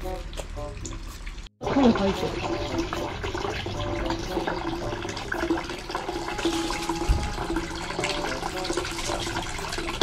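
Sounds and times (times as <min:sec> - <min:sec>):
water running into stone basin: 0:00.3 - 0:10.0.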